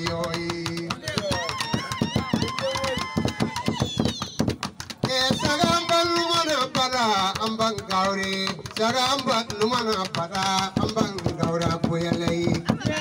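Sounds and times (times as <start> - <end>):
man singing into a microphone: 0.0 - 3.4, 5.0 - 13.0.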